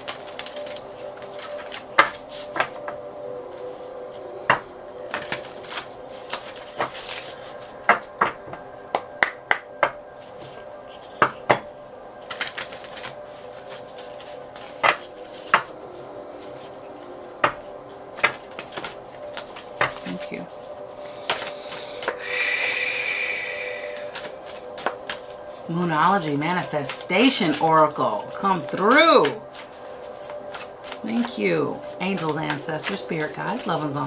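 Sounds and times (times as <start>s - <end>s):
faint steady tone: 0.0s - 34.0s
cards tapping and shuffling: 0.2s - 3.8s, 4.5s - 11.7s, 12.3s - 22.2s, 23.8s - 34.0s.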